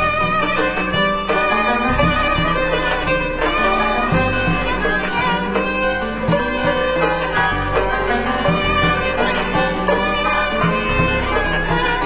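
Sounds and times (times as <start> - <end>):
instrumental music with drone: 0.0 - 12.0.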